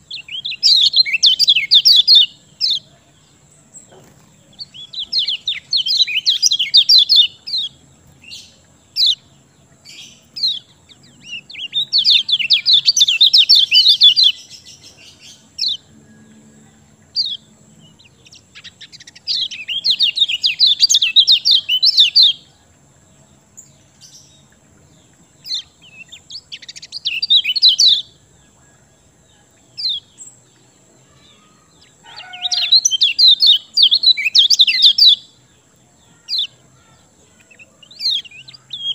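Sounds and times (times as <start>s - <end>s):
bird high twittering song: 0.0s - 38.9s.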